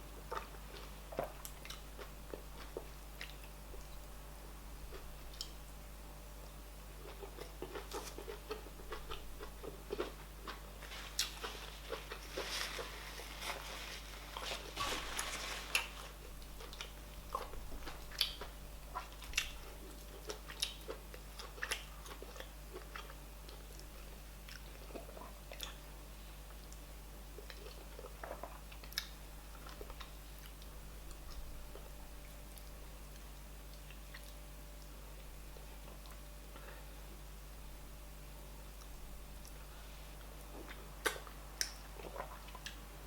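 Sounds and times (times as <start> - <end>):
person chewing food: 0.2 - 4.2, 6.4 - 25.8, 26.5 - 36.9, 38.7 - 42.8.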